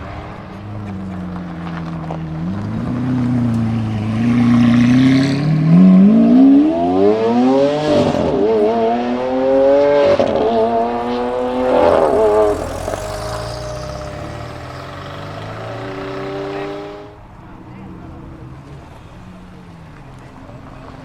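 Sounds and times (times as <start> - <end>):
sports car engine accelerating: 0.0 - 21.0.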